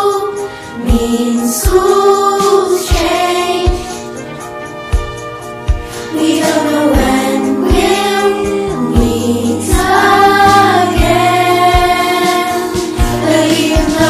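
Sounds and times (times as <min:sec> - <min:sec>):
voices singing: 0:00.0 - 0:04.4, 0:06.0 - 0:14.0
bass: 0:00.8 - 0:14.0
steady drum beat: 0:00.9 - 0:14.0.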